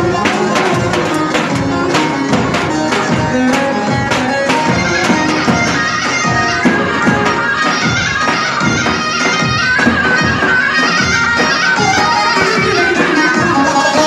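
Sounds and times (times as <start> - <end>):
steady drum beat: 0.0 - 14.0
sustained melody: 0.0 - 14.0.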